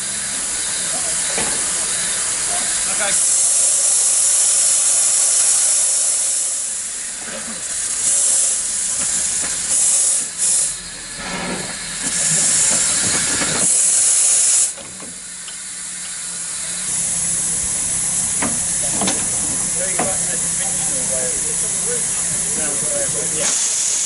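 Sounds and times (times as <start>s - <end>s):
steam locomotive hissing steam: 0.0s - 24.0s.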